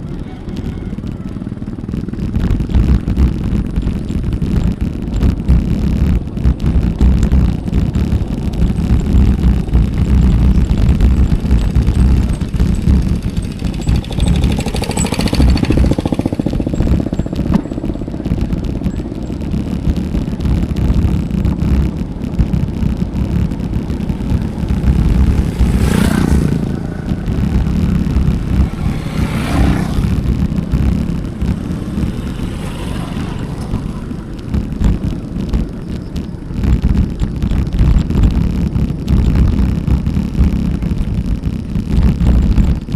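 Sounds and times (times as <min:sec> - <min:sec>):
motor vehicles passing: 0:00.0 - 0:42.9
wind rumbling on microphone: 0:00.0 - 0:42.9.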